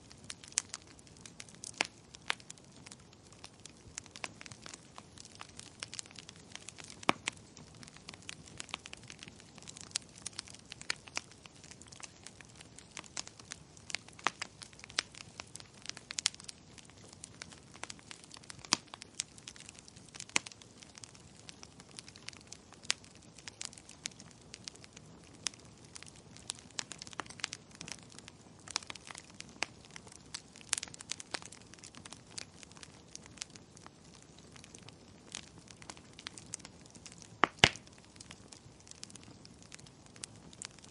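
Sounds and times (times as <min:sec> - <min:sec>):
faint steady hiss: 0:00.0 - 0:40.9
wood fire crackling and popping: 0:00.0 - 0:40.9.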